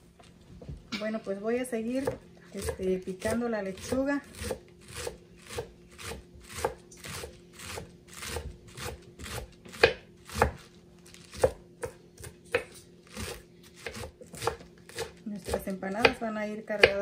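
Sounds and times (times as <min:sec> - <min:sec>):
knife chopping lettuce on wood: 0:02.0 - 0:17.0.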